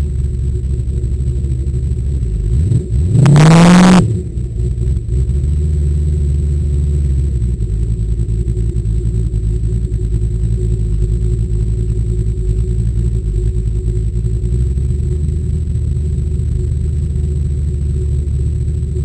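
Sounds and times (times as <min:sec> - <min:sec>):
car engine with throttle blip: 0:00.0 - 0:19.0.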